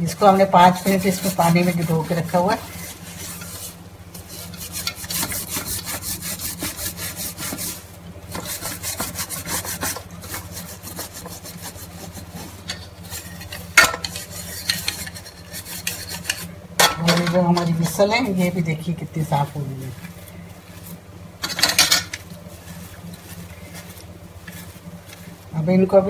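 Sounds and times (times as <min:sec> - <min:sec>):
scrubbing a pot lid in water: 0:00.0 - 0:18.5, 0:19.4 - 0:25.5.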